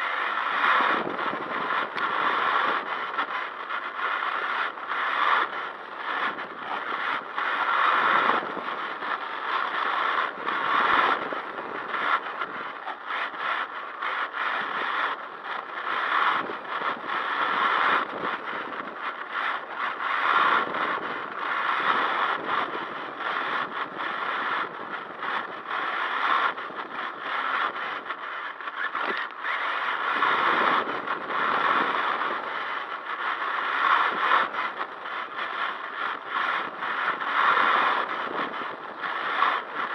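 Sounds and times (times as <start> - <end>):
rc car tyres and drivetrain scraping: 0.0 - 39.9.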